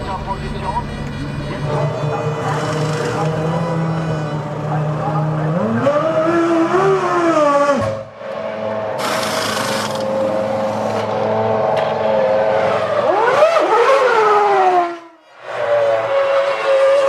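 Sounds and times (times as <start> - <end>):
racing car engine at high revs: 1.5 - 17.0.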